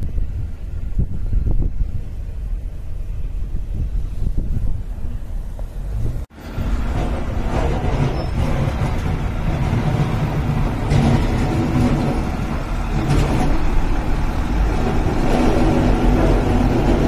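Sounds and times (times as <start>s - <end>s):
truck engine rumble: 0.0s - 17.0s.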